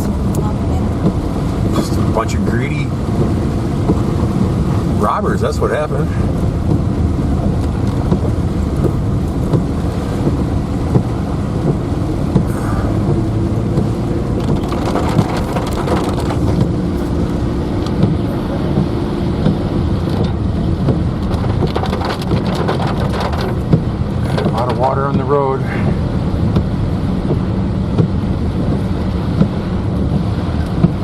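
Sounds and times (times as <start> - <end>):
car engine and tyres rumbling: 0.0 - 31.0
rain ticking on car: 0.0 - 31.0.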